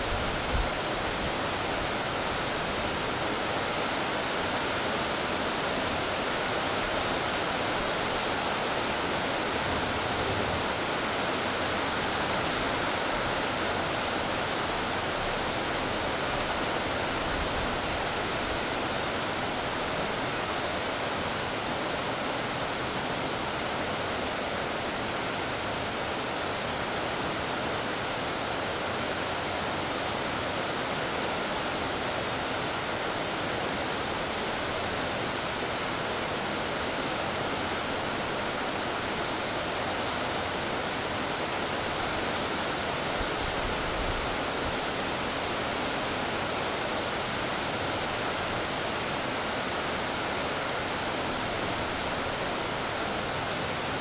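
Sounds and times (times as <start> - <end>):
rain on tiled floor: 0.0 - 54.0.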